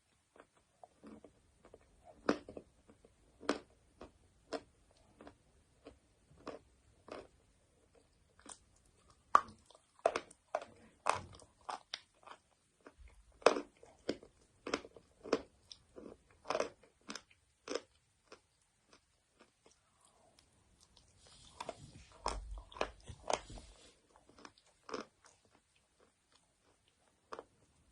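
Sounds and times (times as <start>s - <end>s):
chalk crunching and chewing: 0.0s - 27.9s.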